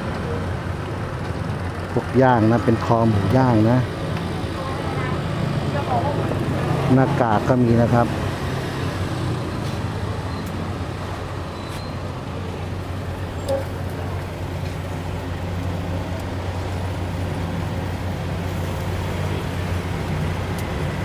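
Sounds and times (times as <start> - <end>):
roadside traffic noise: 0.0 - 21.0.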